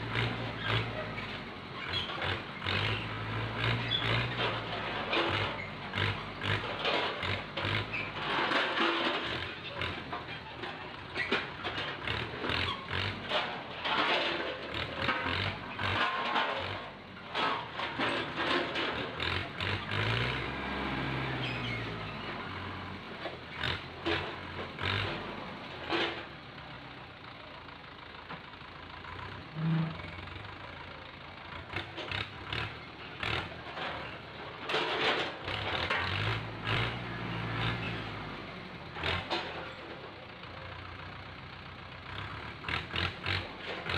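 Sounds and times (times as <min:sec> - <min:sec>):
tractor engine revving: 0:00.0 - 0:26.4, 0:31.4 - 0:40.1, 0:40.9 - 0:43.9.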